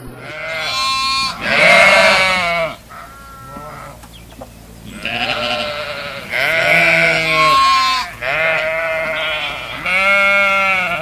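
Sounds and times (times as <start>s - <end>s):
sheep bleating: 0.0s - 4.0s, 4.9s - 11.0s.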